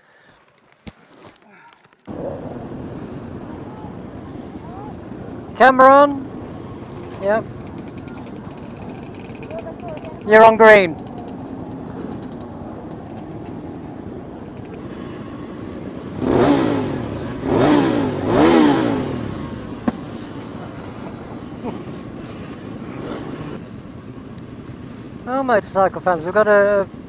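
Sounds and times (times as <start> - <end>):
motorcycle engines revving: 2.0 - 27.0
motorcycles idling: 2.0 - 27.0.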